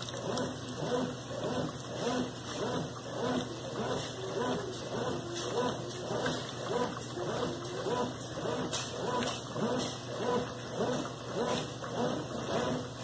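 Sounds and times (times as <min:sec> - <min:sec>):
agitator drive whining: 0:00.0 - 0:13.0
washing machine churning water: 0:00.0 - 0:13.0.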